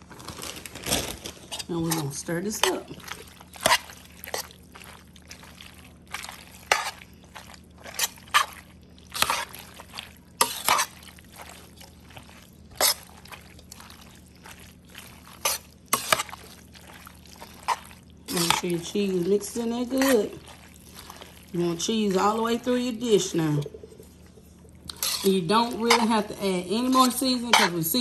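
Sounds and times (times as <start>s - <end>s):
wet squishes of pasta: 0.0s - 28.0s.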